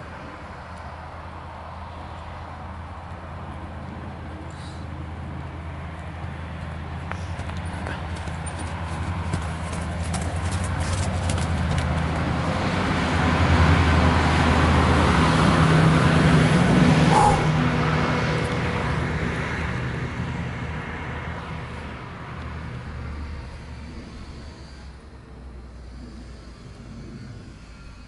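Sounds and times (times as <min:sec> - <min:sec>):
motor vehicle passing by: 0:00.0 - 0:28.0.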